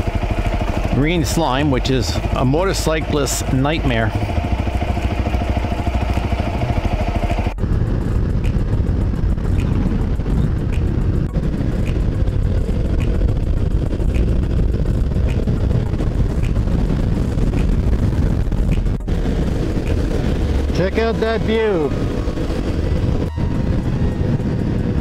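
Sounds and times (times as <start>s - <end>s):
motorcycle engine running: 0.0s - 25.0s
wind rumble on microphone: 0.0s - 25.0s.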